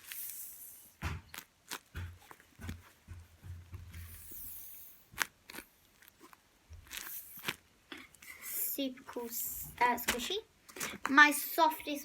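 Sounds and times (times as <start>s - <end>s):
plastic crinkling and crackling: 0.0s - 3.4s, 4.0s - 11.6s.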